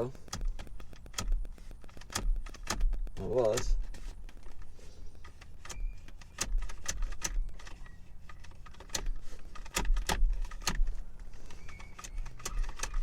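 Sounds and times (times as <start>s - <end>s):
seatbelt retractor clicking: 0.2s - 13.0s.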